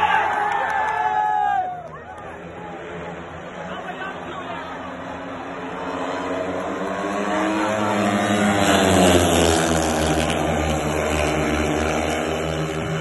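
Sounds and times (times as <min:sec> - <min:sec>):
motorcycle engines racing past: 0:00.0 - 0:13.0.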